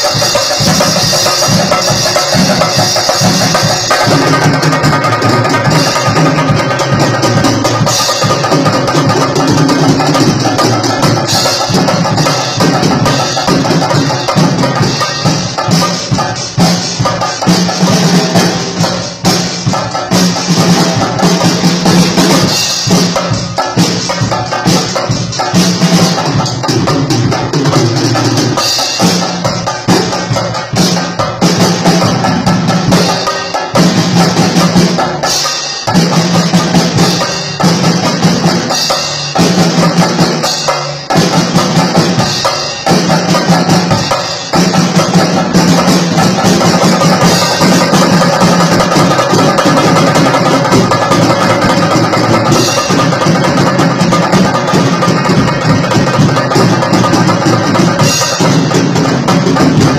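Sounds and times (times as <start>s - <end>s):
cylindrical drum beaten fast: 0.0s - 59.9s
drum kit with cymbals: 0.0s - 59.9s.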